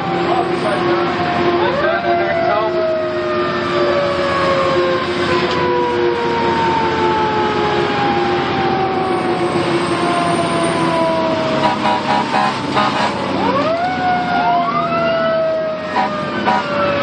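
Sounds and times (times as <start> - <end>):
fire engine siren winding down: 0.0 - 17.0
road noise: 0.0 - 17.0
truck engine: 0.0 - 17.0.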